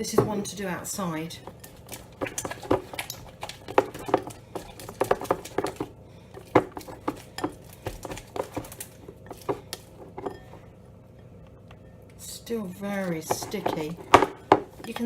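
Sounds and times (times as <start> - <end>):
utensil stirring sticky slime: 0.5 - 11.2, 11.8 - 15.0.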